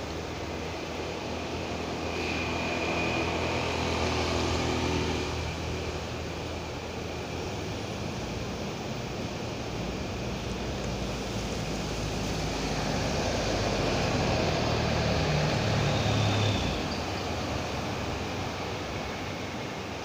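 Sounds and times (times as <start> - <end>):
distant surf: 0.0 - 20.0
vehicle passing on road: 0.0 - 20.0.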